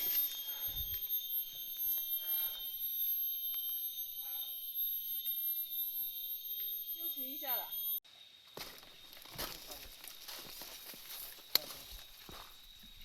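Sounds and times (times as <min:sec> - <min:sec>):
insects buzzing chorus: 0:00.0 - 0:13.0.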